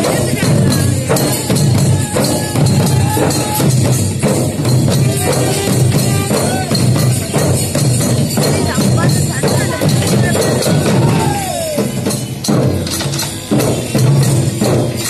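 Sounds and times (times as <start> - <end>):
barrel drums beating: 0.0 - 15.0.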